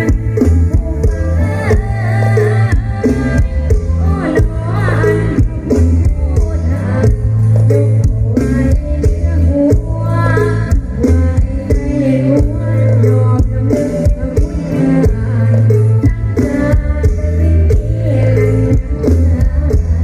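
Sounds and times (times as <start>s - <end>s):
live band over sound system: 0.0s - 20.0s
person singing: 0.0s - 20.0s.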